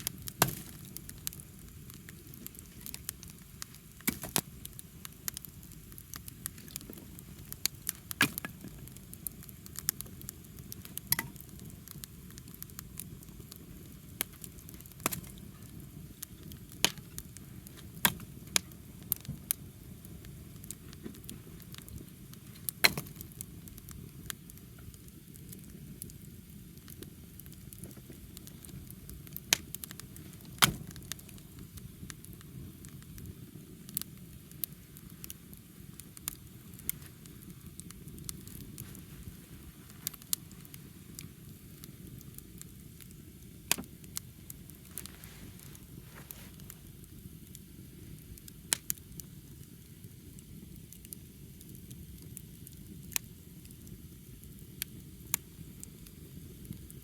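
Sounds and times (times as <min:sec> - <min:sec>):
fire hissing: 0:00.0 - 0:57.0
wood crackling and popping: 0:00.0 - 0:57.0.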